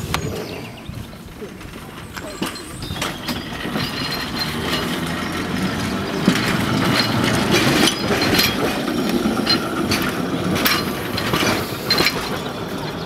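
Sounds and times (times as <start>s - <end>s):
tram wheels rumbling on rails: 0.0s - 13.0s
sharp knocks and clinks: 1.7s - 13.0s.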